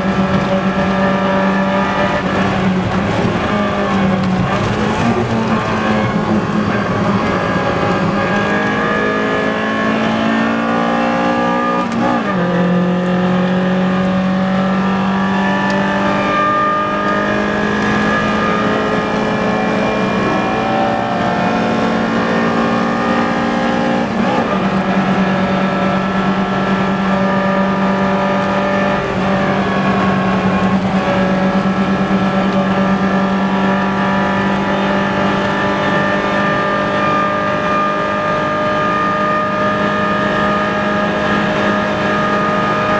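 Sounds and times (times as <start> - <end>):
car engine at full throttle: 0.0 - 42.9.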